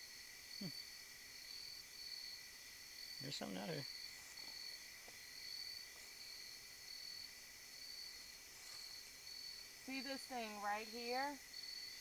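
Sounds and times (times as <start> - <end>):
crickets chirping: 0.0 - 12.0
faint outdoor background: 0.0 - 12.0.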